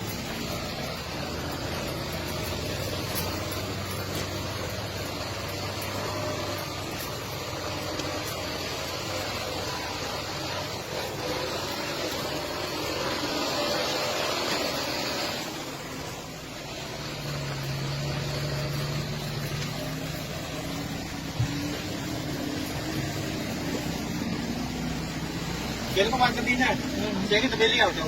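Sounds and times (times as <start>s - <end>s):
road noise: 0.0s - 28.0s
truck engine running: 0.0s - 28.0s.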